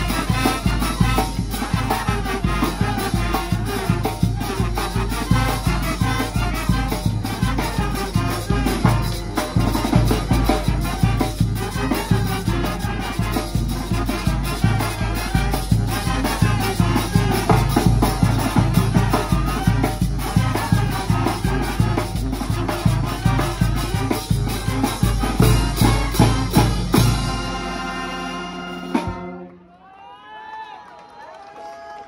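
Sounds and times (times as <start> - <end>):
bass drum beat: 0.0 - 27.6
trombones: 0.0 - 29.6
saxophone: 0.0 - 29.7
trumpets: 0.0 - 29.8.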